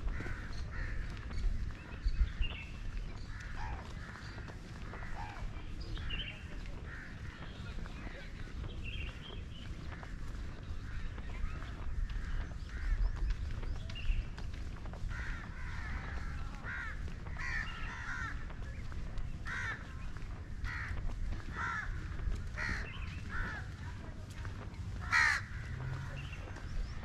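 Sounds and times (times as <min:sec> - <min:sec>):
birds calling: 0:00.0 - 0:27.0.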